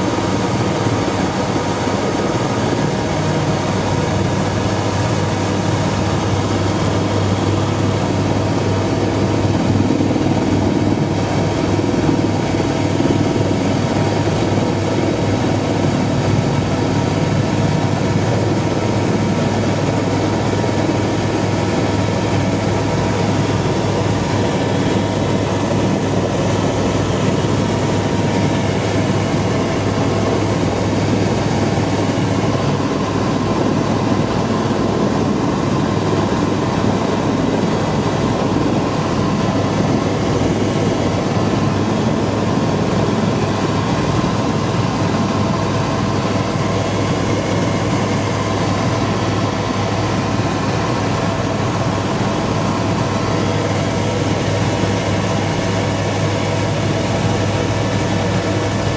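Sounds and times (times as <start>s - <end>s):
helicopter rotor and engine drone: 0.0s - 58.9s.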